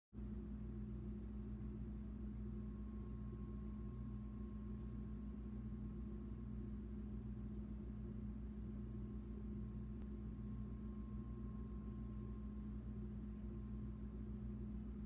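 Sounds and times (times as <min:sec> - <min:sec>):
faint thin whine: 0:00.2 - 0:15.0
low electrical hum: 0:00.2 - 0:15.0.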